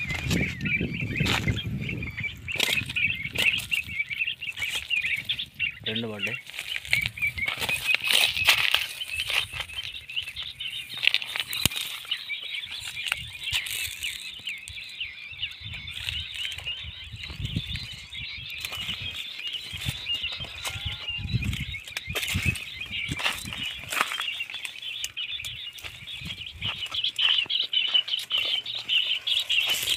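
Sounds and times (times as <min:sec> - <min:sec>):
footsteps through dry leaves: 0:00.0 - 0:15.0, 0:15.7 - 0:29.9
small birds chirping: 0:00.0 - 0:29.9.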